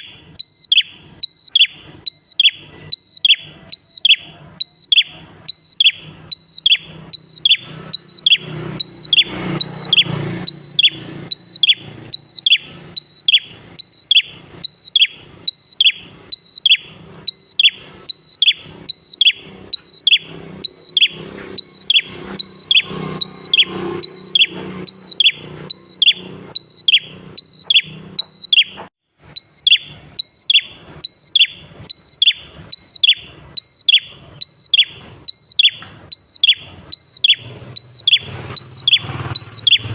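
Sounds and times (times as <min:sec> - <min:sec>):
bird calling high whistles: 0:00.0 - 0:39.9.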